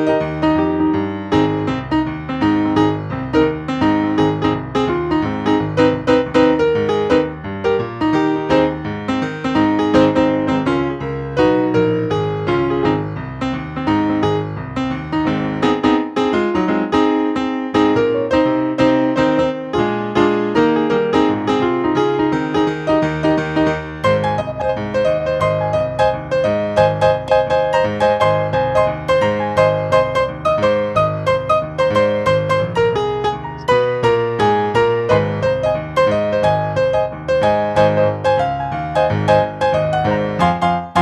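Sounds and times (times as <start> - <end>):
solo piano: 0.0 - 41.0.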